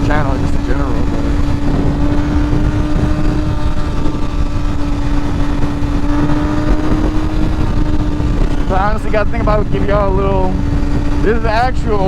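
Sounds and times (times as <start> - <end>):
motorcycle engine cruising: 0.0 - 12.0
wind rushing on microphone: 0.0 - 12.0.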